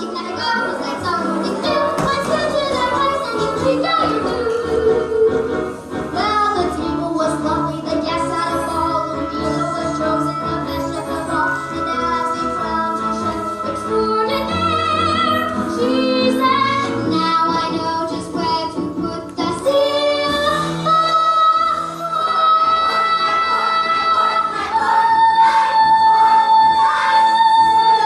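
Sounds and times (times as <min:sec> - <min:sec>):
girl singing with vibrato: 0:00.0 - 0:28.0.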